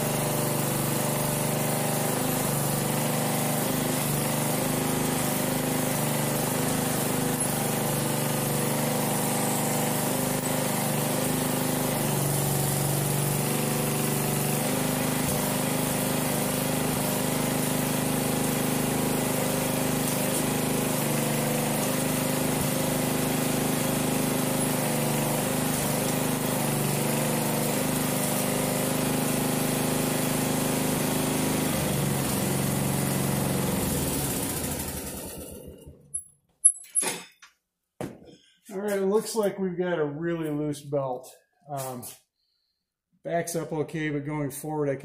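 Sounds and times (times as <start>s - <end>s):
lawn tractor engine running: 0.0s - 36.2s.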